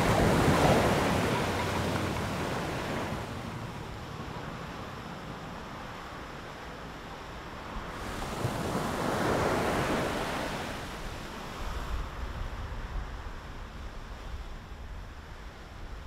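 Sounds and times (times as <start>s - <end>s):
rushing noise like surf: 0.0s - 16.0s.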